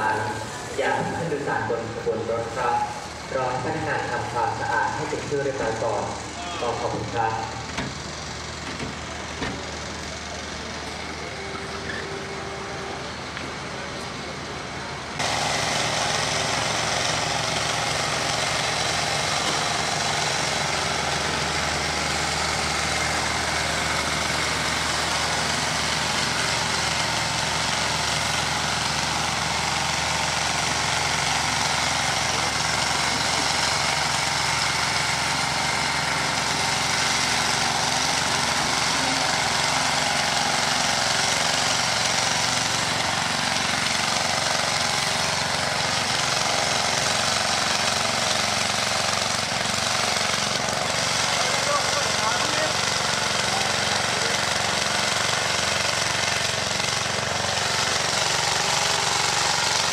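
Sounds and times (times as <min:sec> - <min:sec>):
small engine running: 0:00.0 - 0:59.9.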